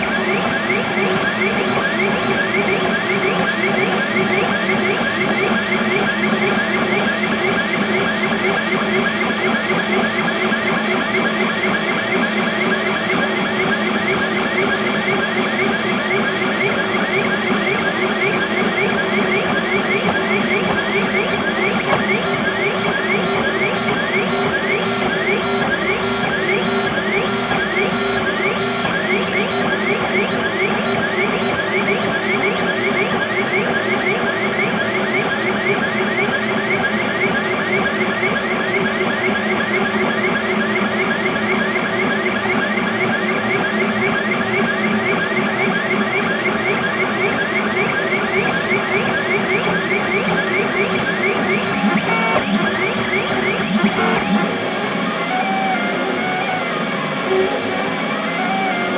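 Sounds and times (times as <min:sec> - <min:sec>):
printer stepper motors whirring: 0:00.0 - 0:58.9
steady printer hum: 0:00.0 - 0:58.9.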